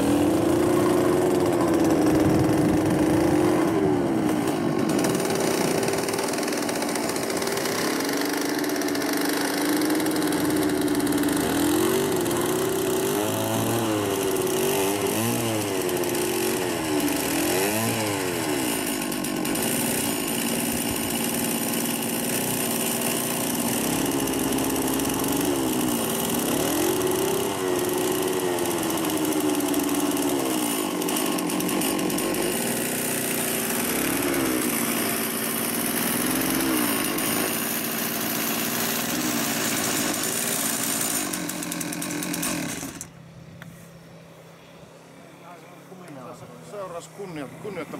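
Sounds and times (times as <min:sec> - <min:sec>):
small petrol engine revving: 0:00.0 - 0:43.2.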